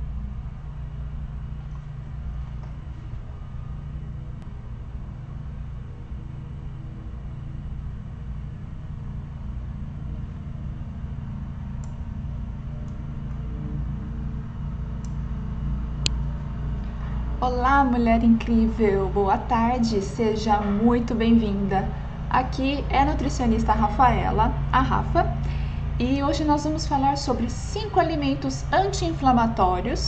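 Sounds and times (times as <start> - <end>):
low room noise rumble: 0.0 - 30.0.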